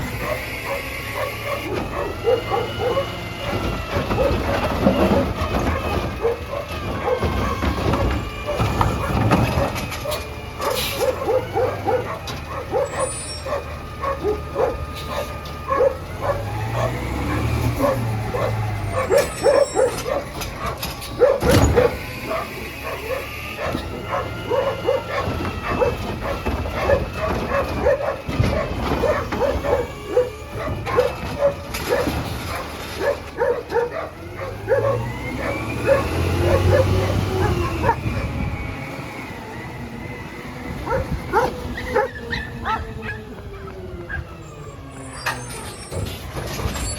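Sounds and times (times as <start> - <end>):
truck engine revving: 0.0 - 46.9
dog barking: 0.1 - 7.6, 8.5 - 38.4, 40.7 - 43.4, 44.0 - 44.3.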